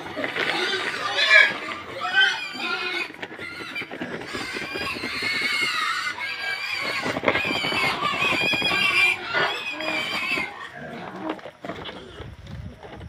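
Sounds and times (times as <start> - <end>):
pigs squealing: 0.0 - 12.3.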